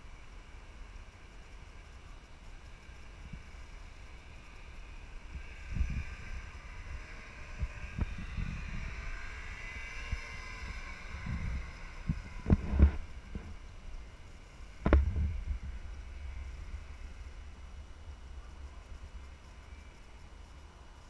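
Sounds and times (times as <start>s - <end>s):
distant snowmobile engine whining: 0.0s - 21.0s
wind rumble on microphone: 0.0s - 21.0s.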